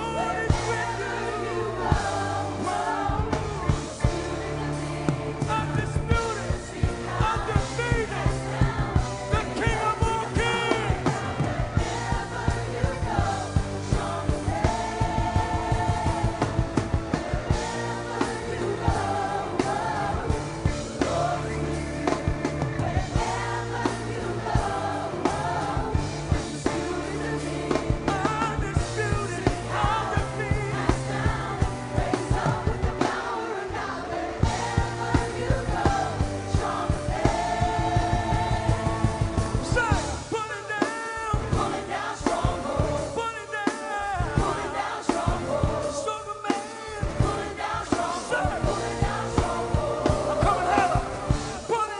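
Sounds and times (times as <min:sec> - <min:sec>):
bass guitar: 0:00.0 - 0:40.4, 0:41.3 - 0:43.3, 0:44.1 - 0:46.1, 0:47.0 - 0:51.8
choir singing: 0:00.0 - 0:51.9
drum kit: 0:00.0 - 0:51.9.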